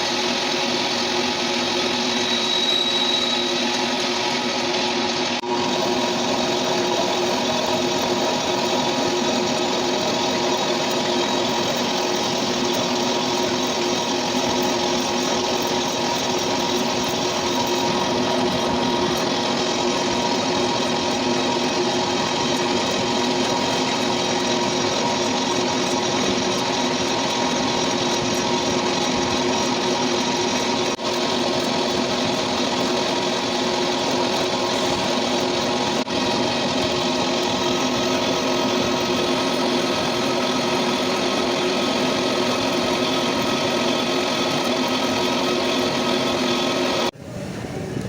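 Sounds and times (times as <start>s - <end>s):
metal lathe humming: 0.0s - 47.2s.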